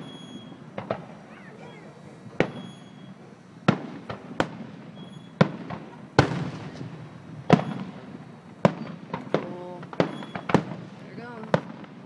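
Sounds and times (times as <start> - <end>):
fireworks banging: 0.0 - 12.0
faint firework pops: 0.7 - 1.2, 2.3 - 12.0.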